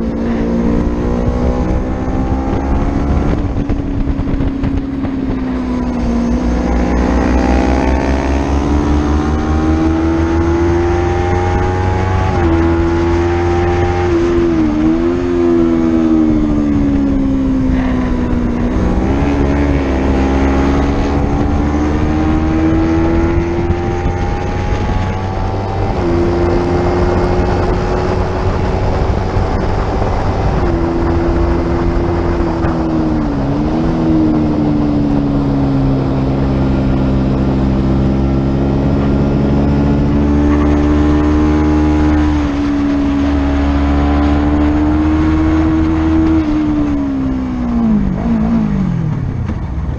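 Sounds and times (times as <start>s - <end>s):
racing motorcycle engine revving: 0.0s - 49.9s
rush of noise: 0.0s - 49.9s.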